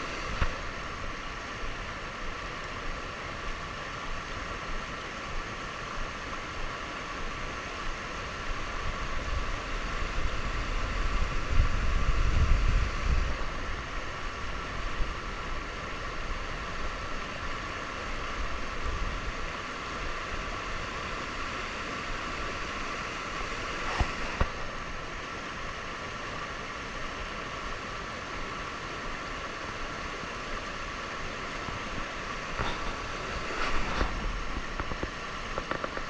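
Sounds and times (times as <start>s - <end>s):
wind rumble on microphone: 0.0s - 24.8s, 31.4s - 36.0s
river water flowing: 0.0s - 36.0s.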